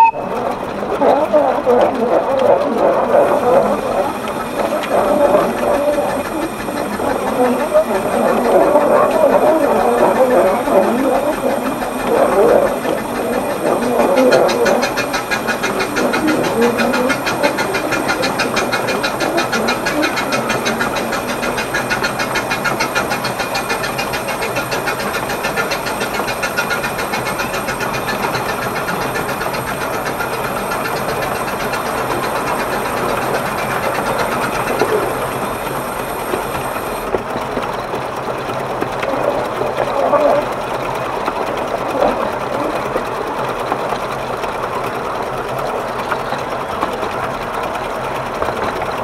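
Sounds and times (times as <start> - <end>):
rail noise: 0.0 - 49.0
steam locomotive running: 0.0 - 49.0.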